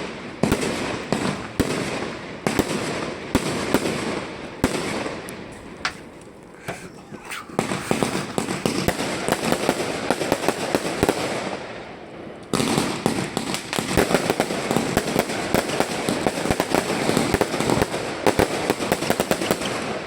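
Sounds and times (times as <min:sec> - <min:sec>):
rapid firework bangs: 0:00.0 - 0:05.3, 0:07.4 - 0:11.8, 0:12.5 - 0:20.0.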